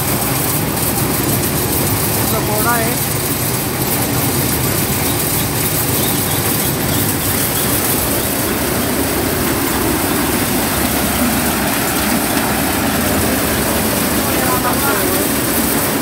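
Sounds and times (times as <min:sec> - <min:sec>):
corn sheller machine running: 0:00.0 - 0:16.0.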